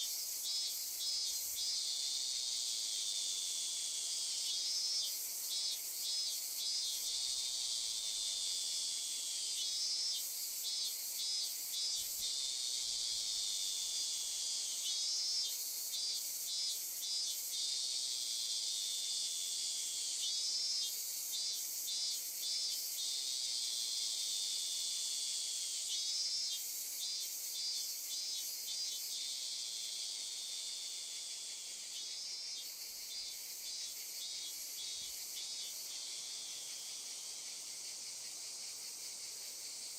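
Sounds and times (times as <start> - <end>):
insect rapid chirps: 0.0 - 39.9
insects buzzing drone: 0.0 - 39.9.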